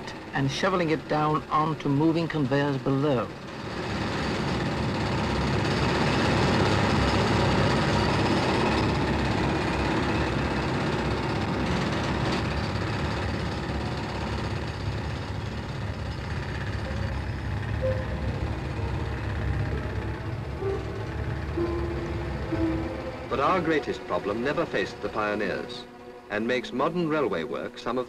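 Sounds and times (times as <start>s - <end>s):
tunnelling machinery rumble: 0.0s - 28.0s.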